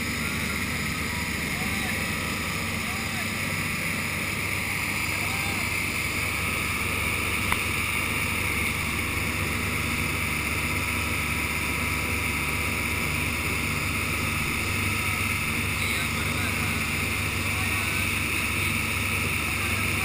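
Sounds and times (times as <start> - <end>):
boat motor droning: 0.0 - 20.0
water rushing along hull: 0.0 - 20.0.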